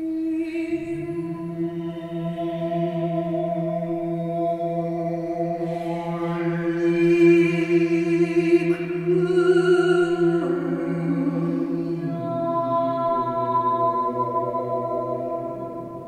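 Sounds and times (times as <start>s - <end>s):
low voice droning: 0.0s - 16.0s.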